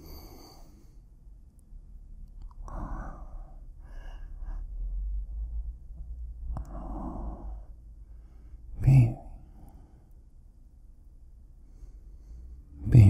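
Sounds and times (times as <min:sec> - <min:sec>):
low rumble: 0:00.7 - 0:13.0.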